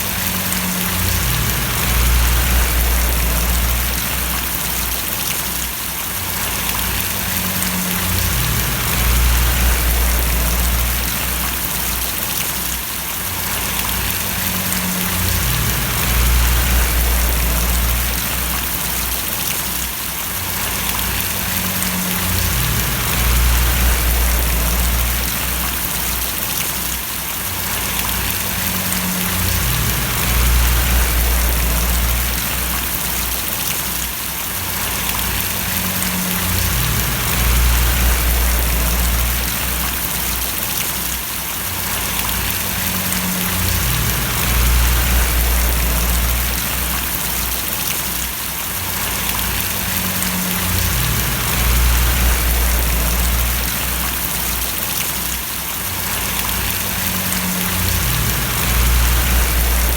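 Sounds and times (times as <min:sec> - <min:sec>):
low rumble: 0:00.0 - 0:05.2, 0:06.4 - 0:12.2, 0:13.6 - 0:19.4, 0:20.6 - 0:26.3, 0:27.9 - 0:33.6, 0:34.8 - 0:40.6, 0:42.0 - 0:47.9, 0:49.0 - 0:54.8, 0:56.4 - 0:59.9
rain falling and splashing: 0:00.0 - 0:59.9.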